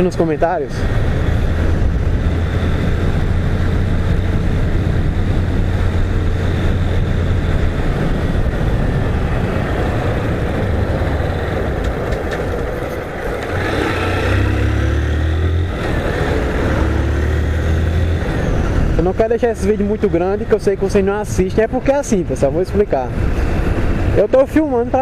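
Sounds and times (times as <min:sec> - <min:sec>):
motorcycle engine drone: 0:00.0 - 0:25.0
wind rush on microphone: 0:00.0 - 0:25.0.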